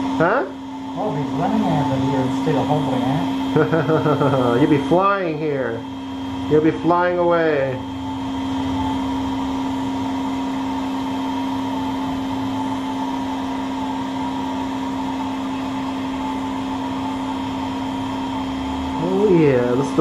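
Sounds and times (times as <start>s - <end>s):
electric sanding file motor whine: 0.0s - 20.0s.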